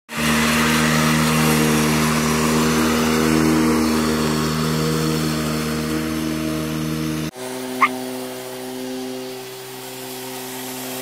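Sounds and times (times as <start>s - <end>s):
lawn mower engine droning: 0.1s - 11.0s.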